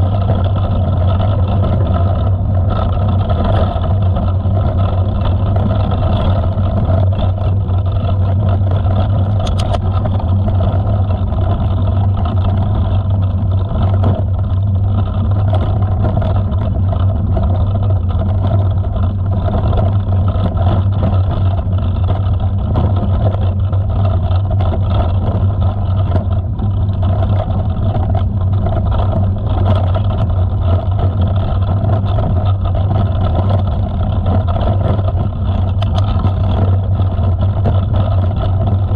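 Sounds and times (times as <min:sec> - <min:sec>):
low drone of riding on dirt trail: 0:00.0 - 0:38.9
small rattles and ticks: 0:00.0 - 0:38.9.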